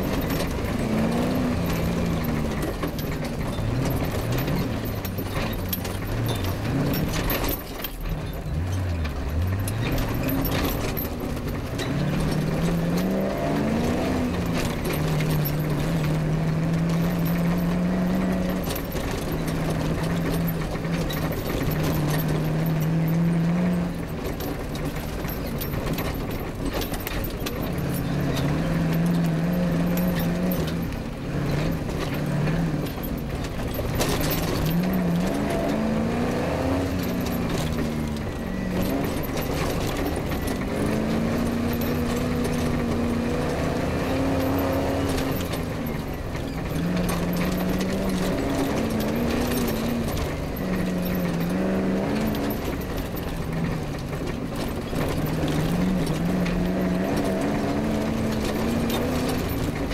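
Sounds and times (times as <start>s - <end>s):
car rattling over rough terrain: 0.0s - 59.9s
rally car engine accelerating: 0.0s - 59.9s.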